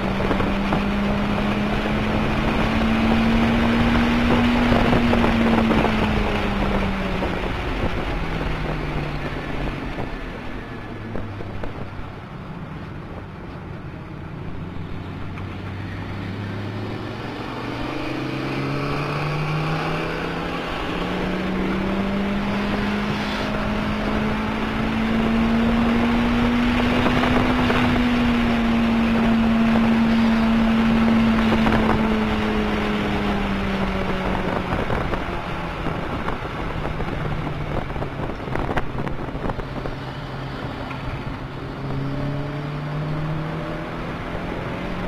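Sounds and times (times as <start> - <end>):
car engine accelerating: 0.0 - 45.0
road and wind noise: 0.0 - 45.0.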